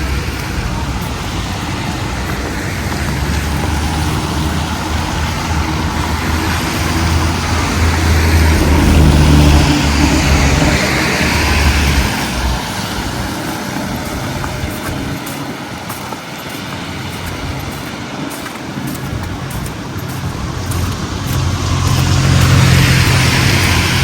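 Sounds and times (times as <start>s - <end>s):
traffic noise: 0.0s - 24.0s
vehicle engine running close: 0.0s - 24.0s.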